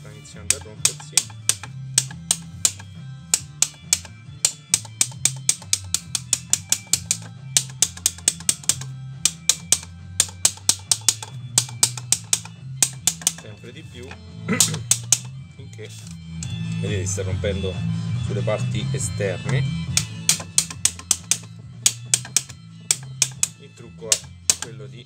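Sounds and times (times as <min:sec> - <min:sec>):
background music with bass line: 0:00.0 - 0:25.0.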